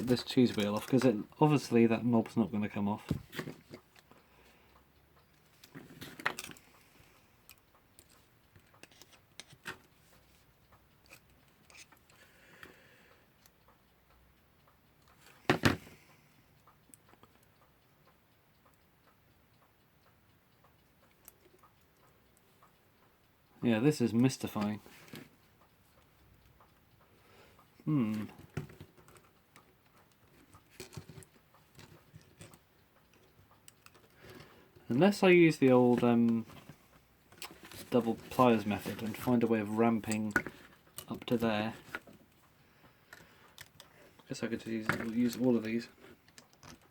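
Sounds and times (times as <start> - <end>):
clock parts clicking and scraping: 0.0 - 4.4, 5.2 - 18.9, 20.0 - 46.9.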